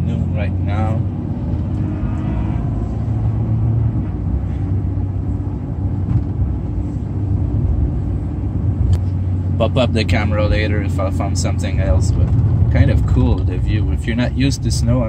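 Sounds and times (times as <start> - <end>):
truck engine and tyre drone: 0.0 - 15.0.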